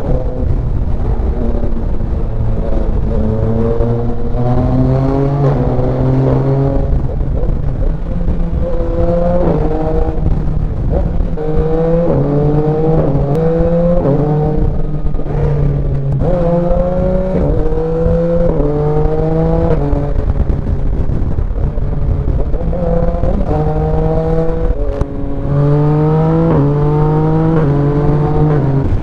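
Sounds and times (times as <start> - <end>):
motorcycle engine accelerating: 0.0 - 29.0
wind rushing: 0.0 - 29.0.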